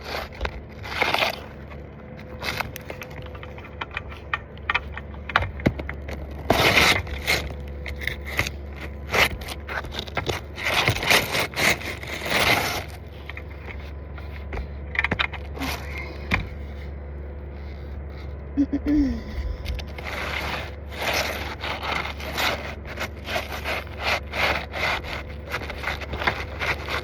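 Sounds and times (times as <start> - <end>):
roof shingles being scraped: 0.0 - 18.4, 19.9 - 27.0.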